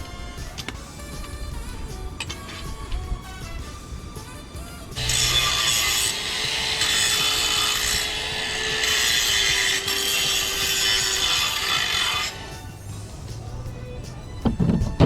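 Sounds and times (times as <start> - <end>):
power saw cutting wood: 0.0 - 15.0.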